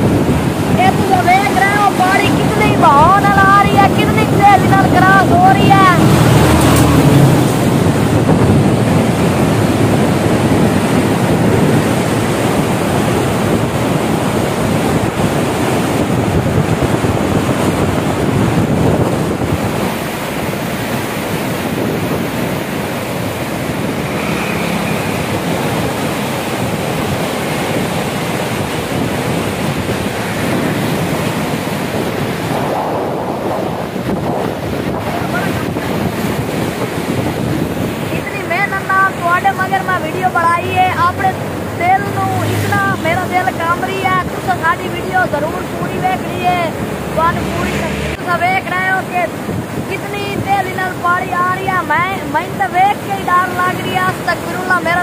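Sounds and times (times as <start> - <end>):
floodwater rushing through gates: 0.0 - 55.0
wind buffeting microphone: 0.0 - 55.0.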